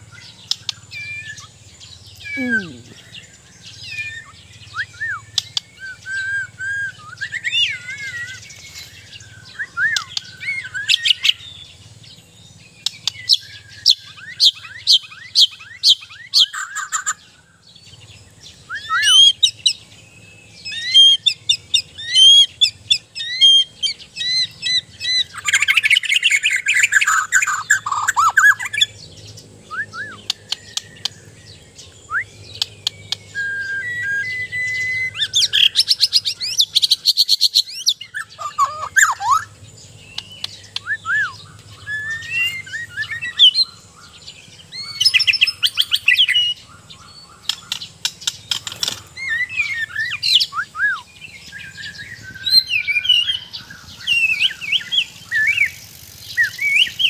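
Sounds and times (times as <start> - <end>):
songbird singing whistles: 0.0 - 11.7, 12.6 - 17.2, 18.0 - 28.9, 29.6 - 39.6, 40.2 - 43.8, 44.6 - 48.6, 49.2 - 57.0.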